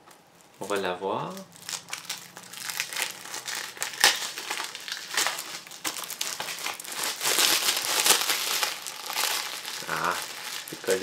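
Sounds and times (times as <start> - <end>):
plastic wrapping crinkling: 0.1 - 11.0.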